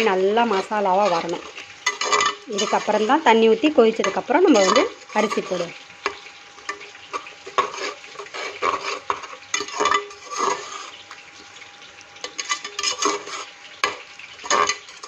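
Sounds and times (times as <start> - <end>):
spoon scraping metal pot: 0.0 - 3.3, 4.0 - 11.1, 12.2 - 15.0
faint sizzle: 0.0 - 15.0.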